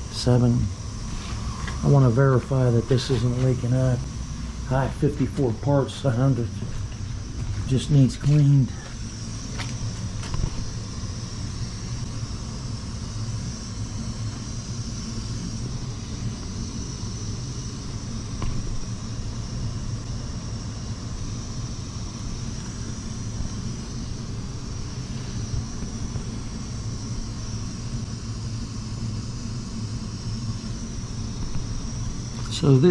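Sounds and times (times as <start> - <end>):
gas burner rumbling: 0.0 - 32.9.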